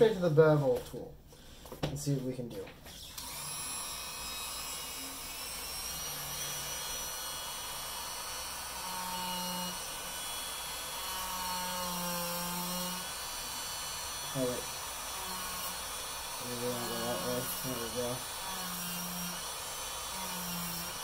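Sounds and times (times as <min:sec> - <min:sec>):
rotary tool whining: 0:02.8 - 0:21.0.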